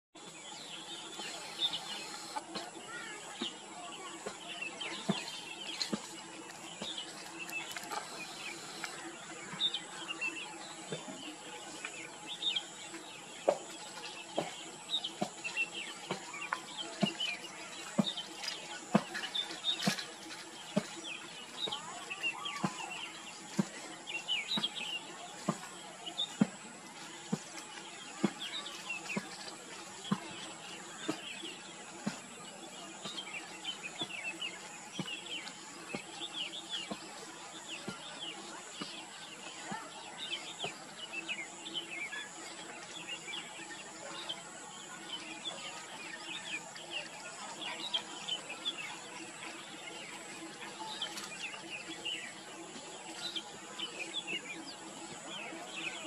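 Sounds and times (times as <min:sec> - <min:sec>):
small birds chirping: 0:00.2 - 0:56.0.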